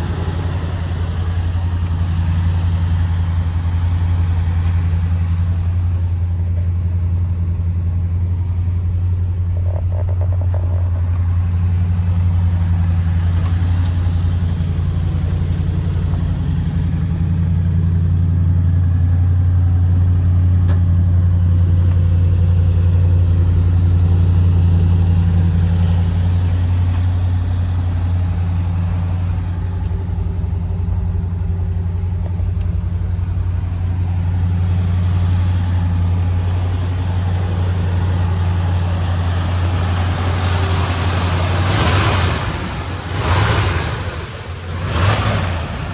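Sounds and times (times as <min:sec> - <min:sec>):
pickup engine idling: 0:00.0 - 0:45.9.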